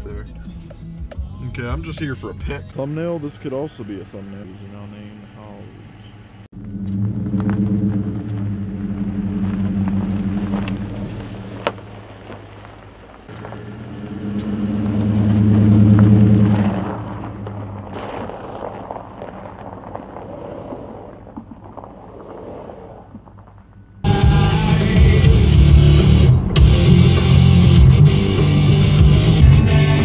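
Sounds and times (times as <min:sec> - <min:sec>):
gravel clicking under tyres: 0:00.0 - 0:25.9
pickup truck engine running: 0:00.0 - 0:30.0.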